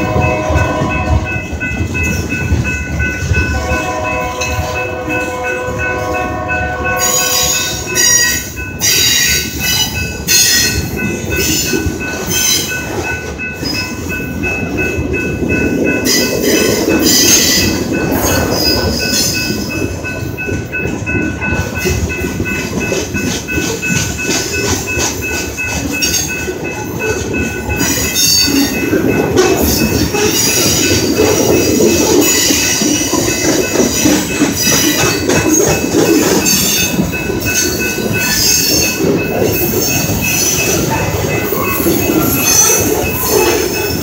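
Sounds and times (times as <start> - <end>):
train cars clattering: 0.0 - 44.0
train wheels rumbling on rail: 0.0 - 44.0.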